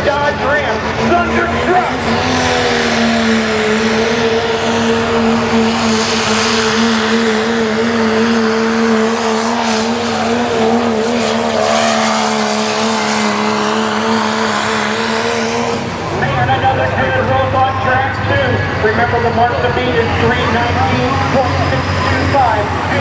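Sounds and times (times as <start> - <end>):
truck diesel engine at full throttle: 0.0 - 23.0.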